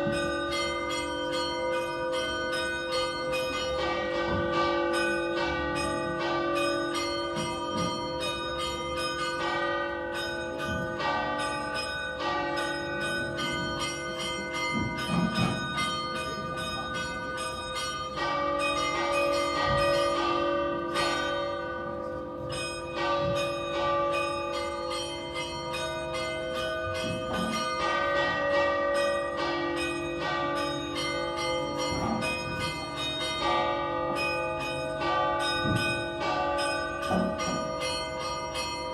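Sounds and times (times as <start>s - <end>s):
tower bells pealing: 0.0s - 38.9s.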